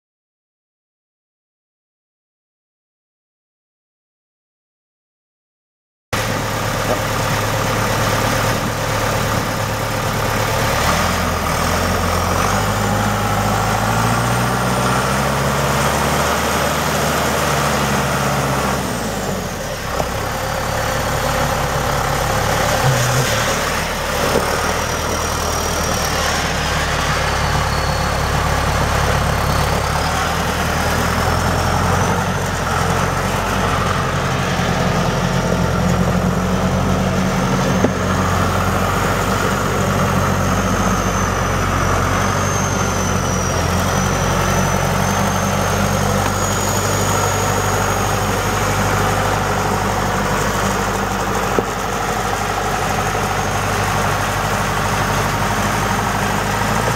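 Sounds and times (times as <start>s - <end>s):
tractor diesel engine running: 6.2s - 56.9s.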